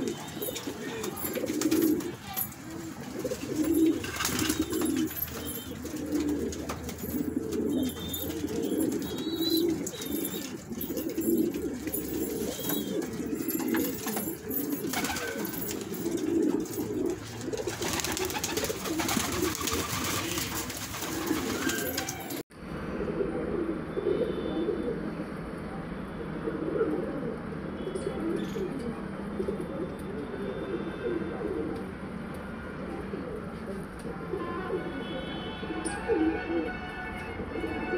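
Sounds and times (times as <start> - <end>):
pigeons cooing: 0.0 - 25.3, 26.2 - 31.9.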